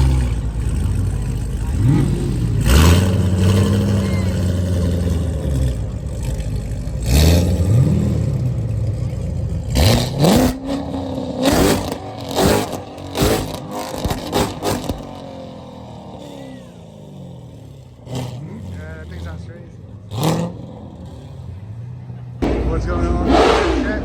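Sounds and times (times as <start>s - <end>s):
car driving off: 0.0s - 24.0s
car engine revving: 0.0s - 24.0s.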